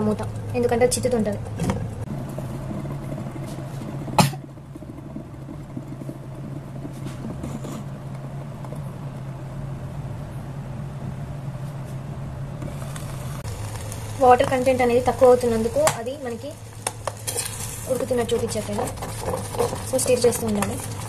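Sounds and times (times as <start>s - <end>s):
thick food bubbling and spluttering: 0.0s - 9.2s, 12.7s - 21.0s
steady low hum: 0.0s - 21.0s.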